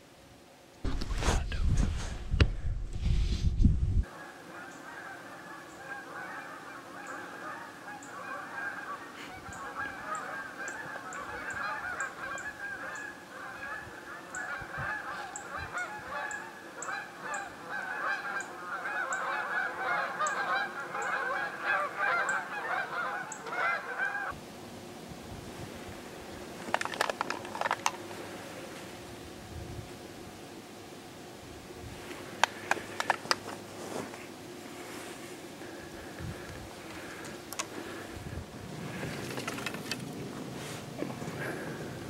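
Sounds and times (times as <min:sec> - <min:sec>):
flock of birds chattering: 0:04.0 - 0:25.0, 0:25.7 - 0:42.0.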